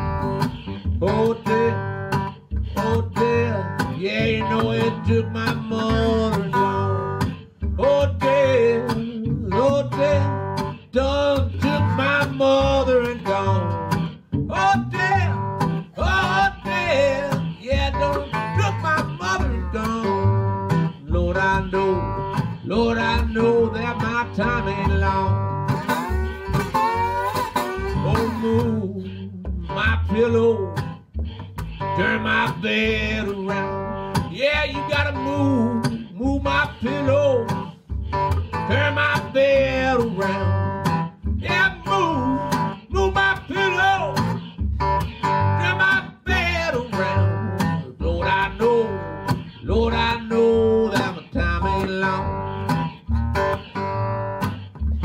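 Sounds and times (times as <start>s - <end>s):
acoustic guitar picking: 0.0s - 55.0s
washtub bass: 0.0s - 55.0s.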